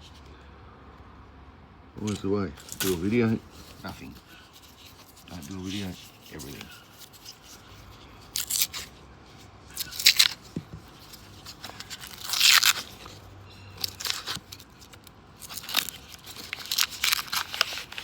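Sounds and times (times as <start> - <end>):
paper wrapper tearing and crinkling: 2.0 - 8.9, 9.7 - 18.0.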